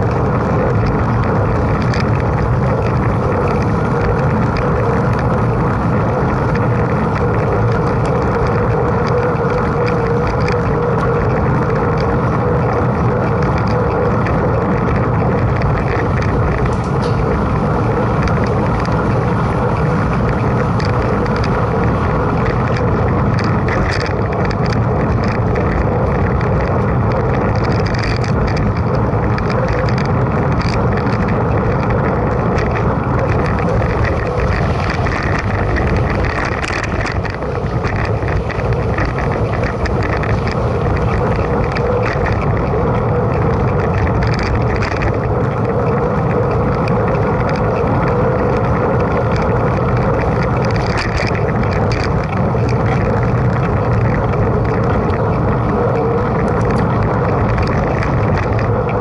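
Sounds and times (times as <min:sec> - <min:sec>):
rolling tyre noise: 0:00.0 - 0:59.0
small ticks: 0:00.0 - 0:59.0
wind noise on microphone: 0:00.0 - 0:59.0.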